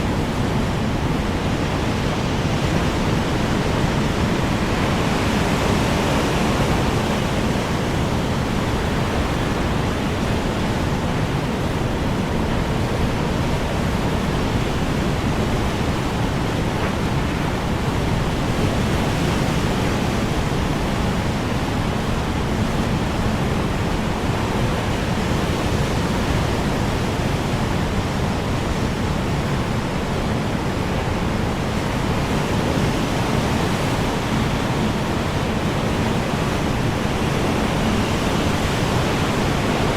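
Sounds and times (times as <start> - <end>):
strong wind blowing: 0.0 - 39.9.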